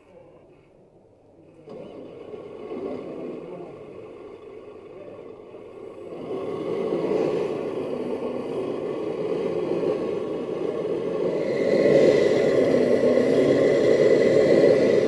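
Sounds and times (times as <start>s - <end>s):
hydraulic pump and ram running: 1.4s - 15.0s.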